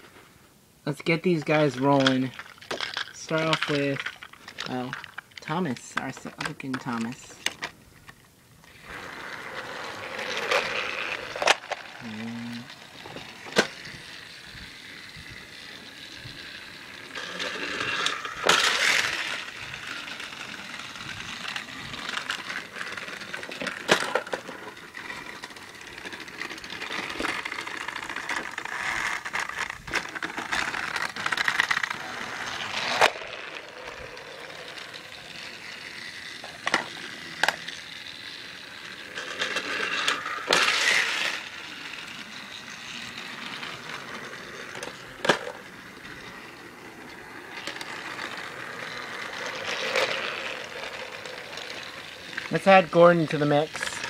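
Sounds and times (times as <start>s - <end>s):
toy wheels rattling over track: 0.9s - 54.0s
toy train motor whirring: 1.0s - 54.0s.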